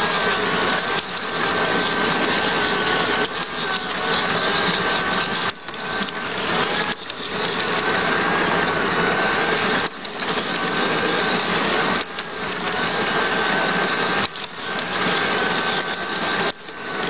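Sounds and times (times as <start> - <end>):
model train motor whirring: 0.0 - 17.0
wheels rolling on track: 0.0 - 17.0.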